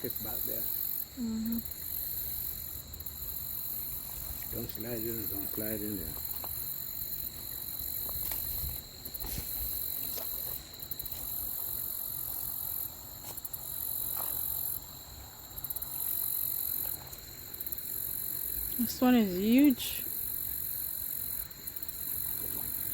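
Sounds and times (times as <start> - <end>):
insects buzzing: 0.0 - 22.9.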